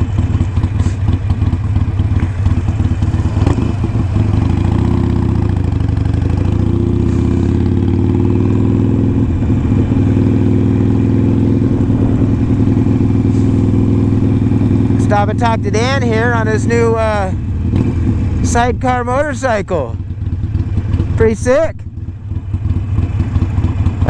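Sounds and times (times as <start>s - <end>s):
motorcycle engine: 0.0s - 24.0s.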